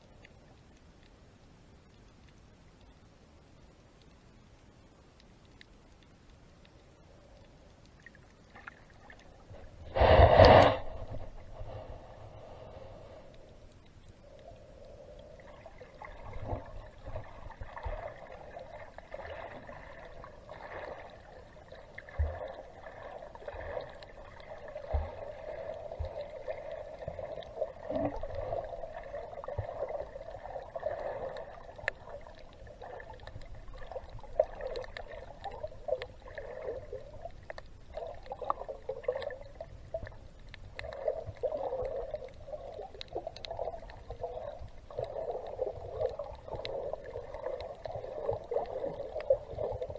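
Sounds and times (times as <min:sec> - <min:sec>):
underwater gurgling and rush: 0:06.7 - 0:49.9.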